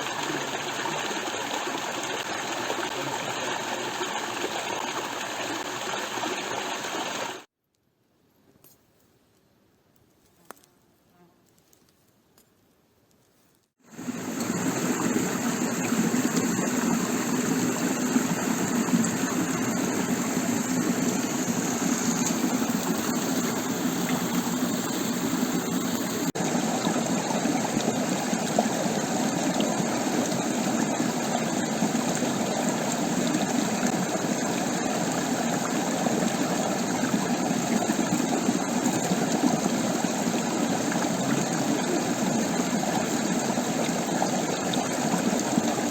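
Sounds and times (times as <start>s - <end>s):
stream flowing water: 0.0s - 7.5s, 13.8s - 45.9s.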